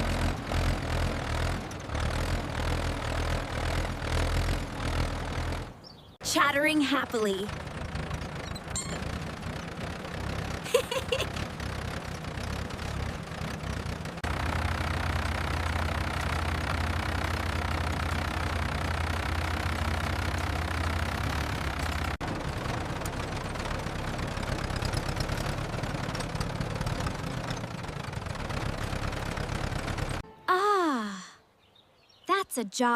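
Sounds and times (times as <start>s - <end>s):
tractor engine running: 0.0s - 30.2s.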